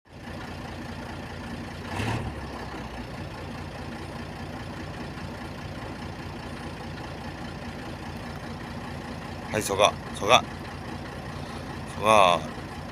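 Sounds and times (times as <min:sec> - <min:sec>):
truck engine running: 0:00.1 - 0:12.9.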